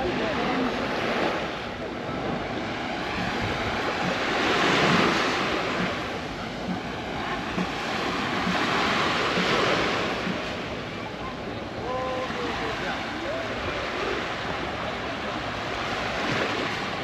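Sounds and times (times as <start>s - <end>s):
waves washing onto beach: 0.0s - 17.0s
wind on microphone: 0.0s - 17.0s.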